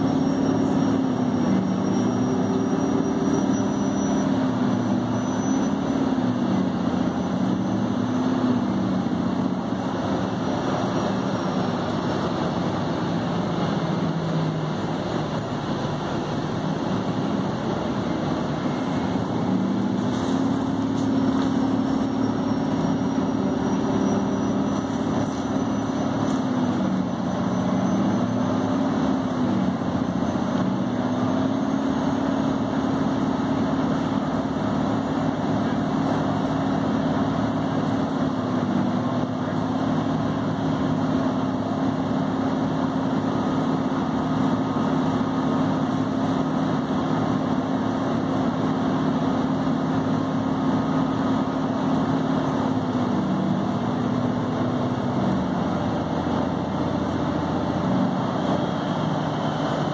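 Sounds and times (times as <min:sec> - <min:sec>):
bus drivetrain hum: 0:00.0 - 0:59.9
road noise: 0:00.0 - 0:59.9.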